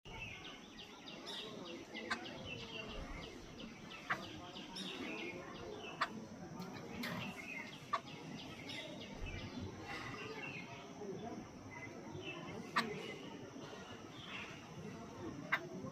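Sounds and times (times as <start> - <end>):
birds chattering: 0.1 - 15.9.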